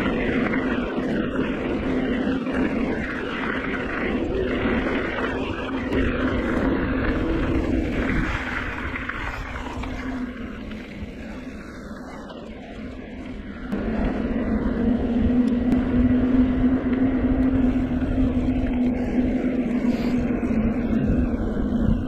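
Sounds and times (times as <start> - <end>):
bike tyres rolling on pavement: 0.0 - 22.0
wind rushing over microphone: 0.0 - 22.0.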